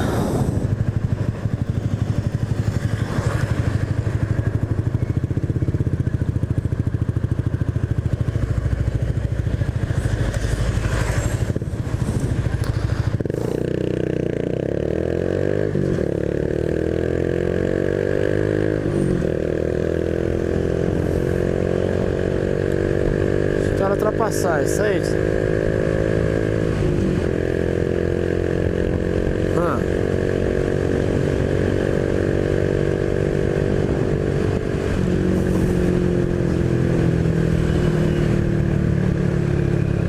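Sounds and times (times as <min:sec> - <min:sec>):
motorcycle engine accelerating: 0:00.0 - 0:40.0.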